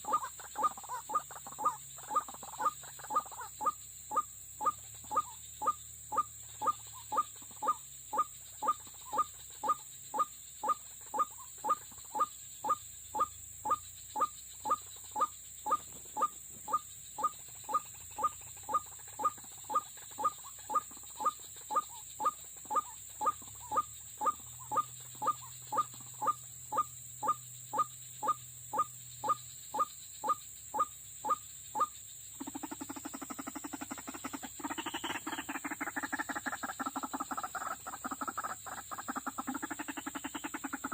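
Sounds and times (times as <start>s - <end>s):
waterhen calling: 0.0s - 40.9s.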